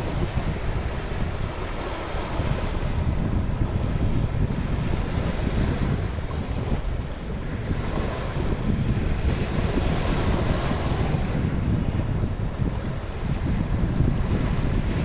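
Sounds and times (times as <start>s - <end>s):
surf breaking on a beach: 0.0s - 15.0s
wind buffeting microphone: 0.0s - 15.0s.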